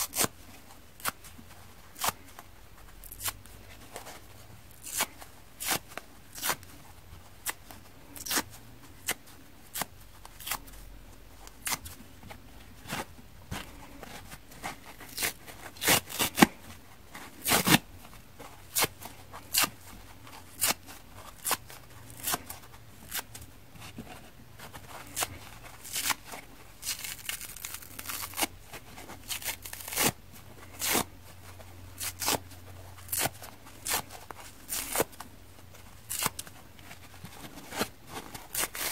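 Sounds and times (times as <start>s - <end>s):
foam sponge ripping: 0.0s - 6.8s, 12.8s - 38.9s.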